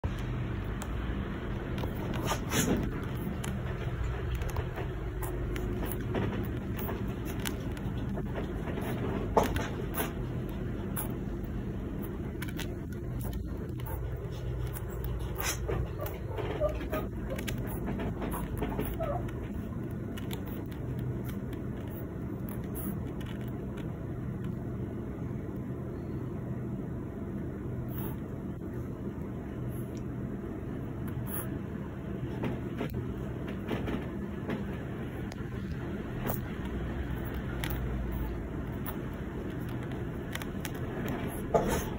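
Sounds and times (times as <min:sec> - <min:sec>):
faint clicks and rustles: 0:00.0 - 0:25.7, 0:31.0 - 0:41.9
low background rumble: 0:00.0 - 0:41.9.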